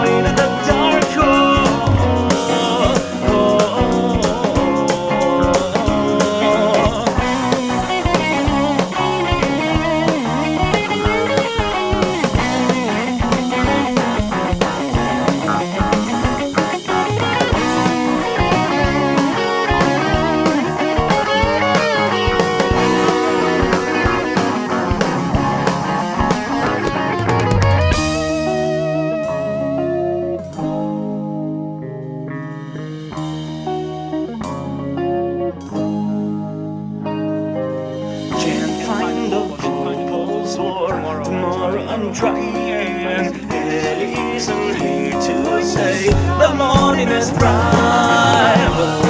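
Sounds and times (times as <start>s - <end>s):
drum kit: 0.0s - 31.2s, 32.5s - 36.6s, 37.8s - 41.4s, 42.2s - 49.0s
bass guitar: 0.0s - 49.0s
electric guitar: 0.0s - 49.0s.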